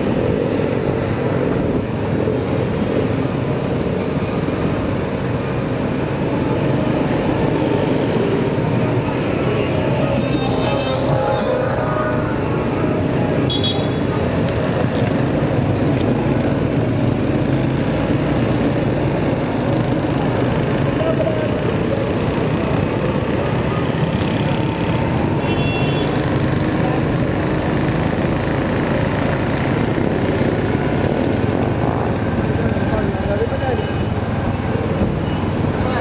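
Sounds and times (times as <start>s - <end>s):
motorcycle engine: 0.0s - 36.0s
road noise: 0.0s - 36.0s.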